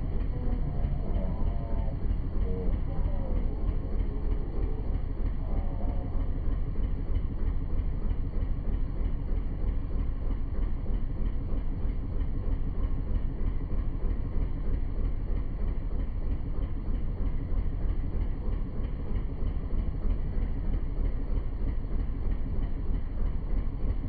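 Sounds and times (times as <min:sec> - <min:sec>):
boat engine rumble: 0:00.0 - 0:24.0.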